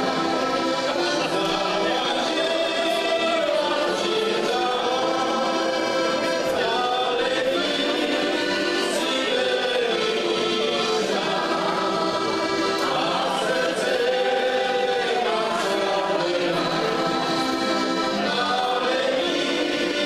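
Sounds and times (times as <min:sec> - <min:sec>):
accordions playing chords: 0:00.0 - 0:20.0
men singing: 0:00.0 - 0:20.0.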